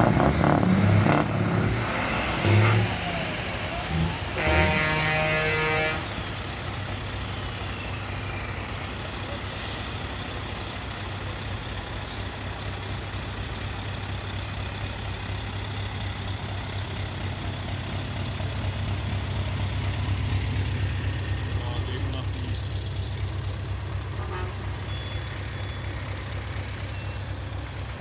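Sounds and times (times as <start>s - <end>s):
truck diesel engines rumbling: 0.0s - 28.0s.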